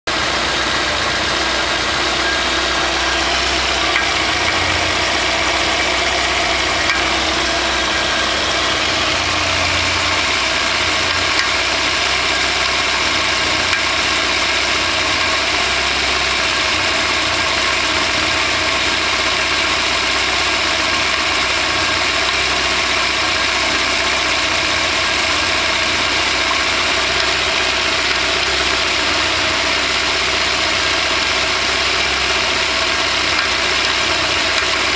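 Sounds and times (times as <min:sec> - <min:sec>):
car engine running: 0:00.0 - 0:34.9
engine knock: 0:00.0 - 0:34.9.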